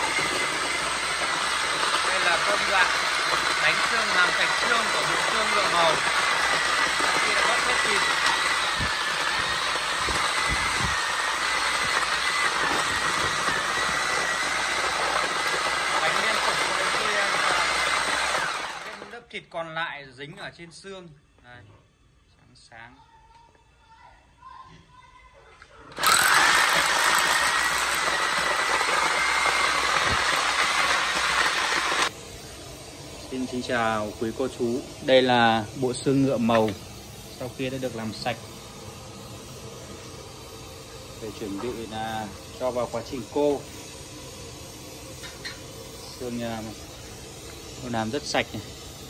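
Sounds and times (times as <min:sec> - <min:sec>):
gas burner hissing: 0:00.0 - 0:23.0, 0:25.9 - 0:49.0
pot at a rolling boil: 0:00.0 - 0:49.0.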